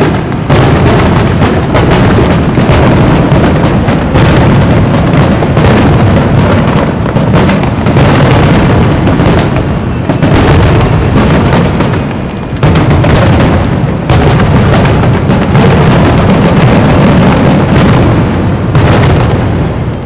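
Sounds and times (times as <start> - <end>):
fireworks shells bursting: 0.0 - 20.0.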